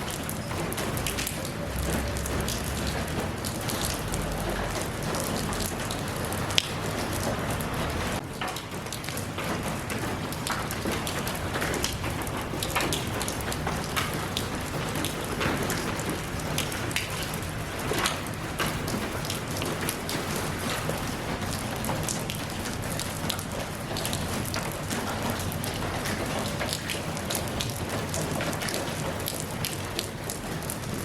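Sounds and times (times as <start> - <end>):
raindrops ticking on a surface: 0.0 - 31.0
steady rain hiss: 0.0 - 31.0.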